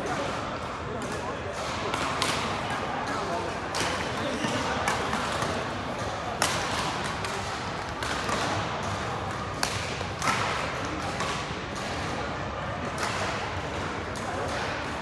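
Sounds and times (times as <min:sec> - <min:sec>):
hall chatter: 0:00.0 - 0:15.0
rackets hitting shuttlecock: 0:00.3 - 0:15.0.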